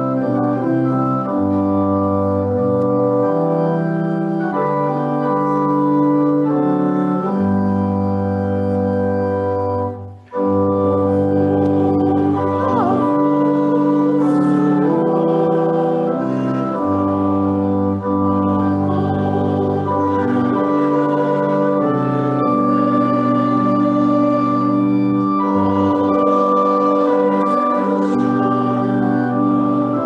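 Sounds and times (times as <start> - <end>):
church organ playing a hymn: 0.0 - 30.0.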